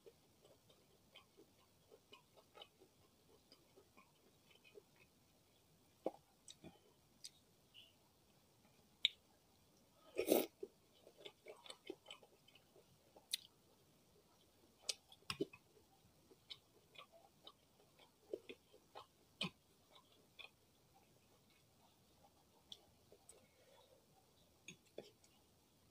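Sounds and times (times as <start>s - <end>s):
close chewing with mouth clicks: 0.0s - 7.4s, 10.1s - 25.5s.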